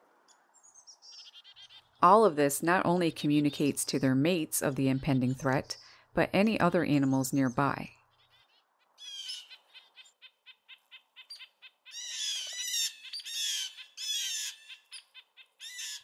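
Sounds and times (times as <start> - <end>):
songbirds chipping: 0.2 - 16.0
harsh scolding bird calls: 0.6 - 5.9, 6.5 - 16.0.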